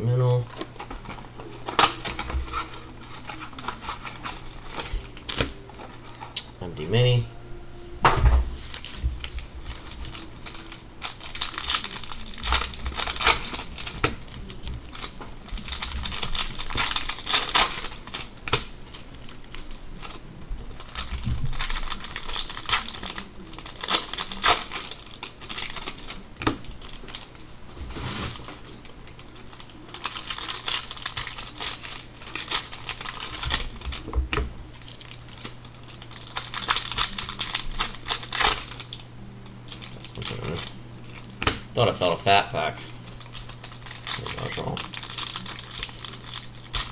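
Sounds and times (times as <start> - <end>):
plastic wrappers crinkling: 0.3 - 6.5, 8.6 - 46.9.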